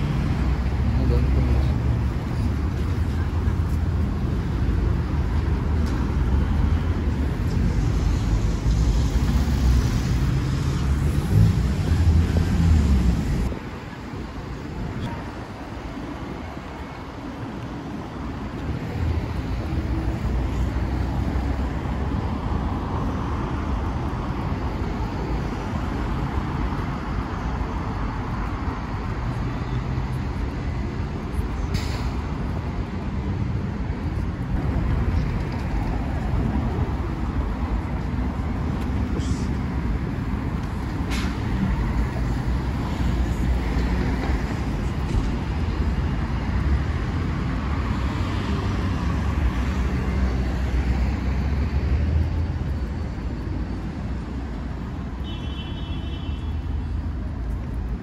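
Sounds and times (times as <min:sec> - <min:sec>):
cars passing on road: 0:00.0 - 0:58.0.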